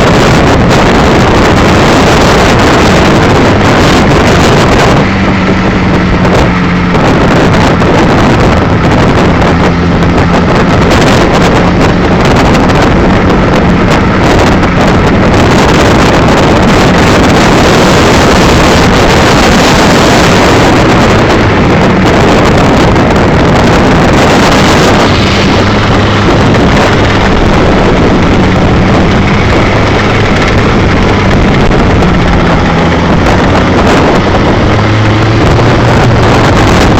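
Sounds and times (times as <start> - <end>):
low wavering hum: 0.0 - 36.9
wind buffeting microphone: 0.0 - 36.9.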